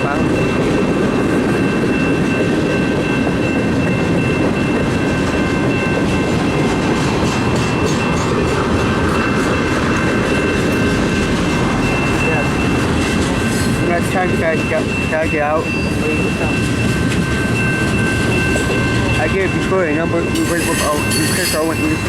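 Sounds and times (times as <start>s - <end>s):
high steady ringing tone: 0.0s - 22.0s
train wheels rumbling on rail: 0.0s - 22.0s.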